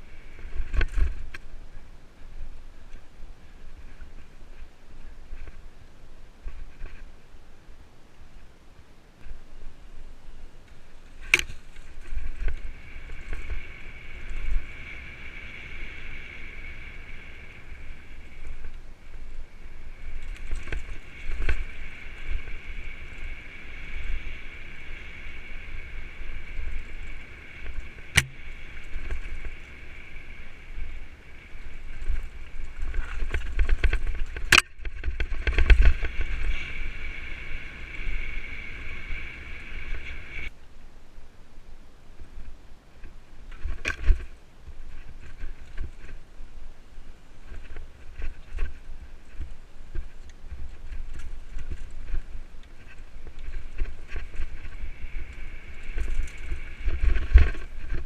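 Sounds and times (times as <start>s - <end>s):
low rumble of wind and bumps: 0.0s - 58.0s.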